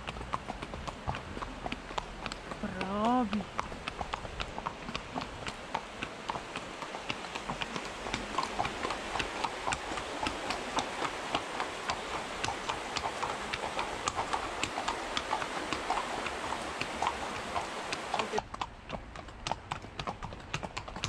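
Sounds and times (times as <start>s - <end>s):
horse hooves clip-clopping on pavement: 0.0s - 21.0s.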